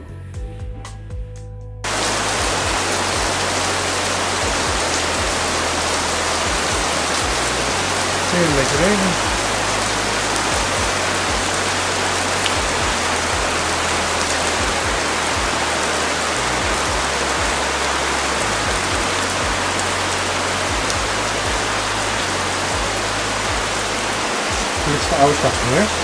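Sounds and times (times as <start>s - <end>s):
heavy rain falling: 1.9s - 26.0s.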